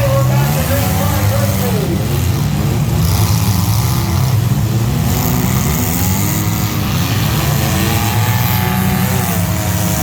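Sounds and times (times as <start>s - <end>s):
race vehicle engine running: 0.0s - 10.0s.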